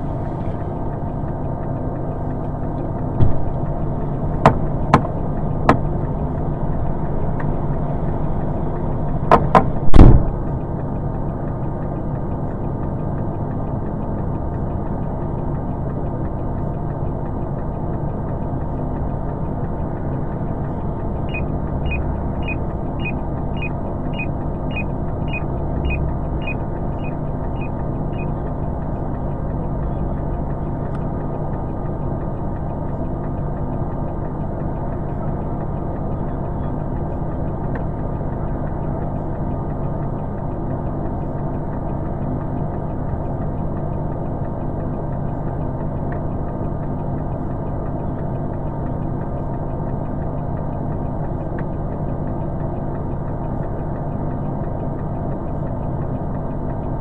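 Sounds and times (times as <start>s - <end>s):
truck engine idling: 0.0s - 57.0s
regular ticks: 0.1s - 57.0s.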